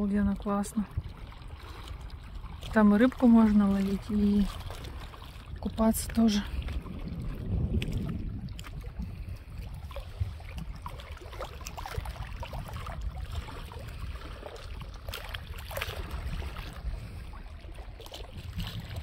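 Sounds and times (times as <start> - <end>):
small splashes: 0.0 - 19.0
waves lapping on rocky shore: 0.0 - 19.0
wind rumble on microphone: 0.0 - 19.0.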